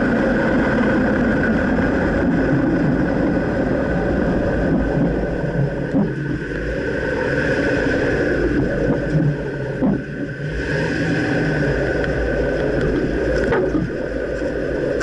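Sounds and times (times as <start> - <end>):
pickup engine and road noise: 0.0 - 15.0
suspension clunk: 0.0 - 15.0.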